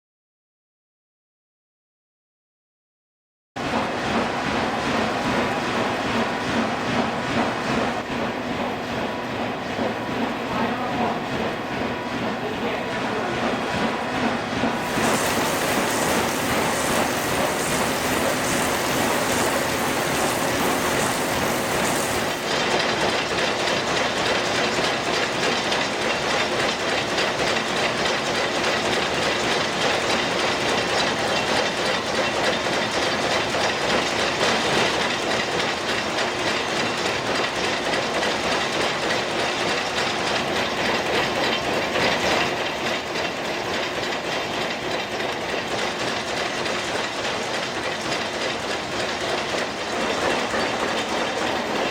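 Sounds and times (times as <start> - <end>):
machinery rhythmic clatter: 3.6 - 51.9.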